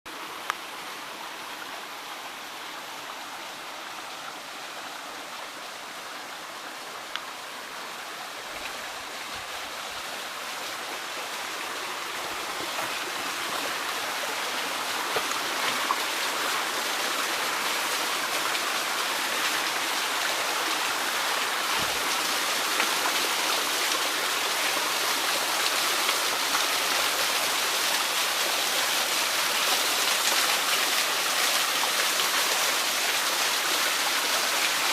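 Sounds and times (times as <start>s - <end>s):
waterfall pouring and splashing: 0.1s - 34.9s.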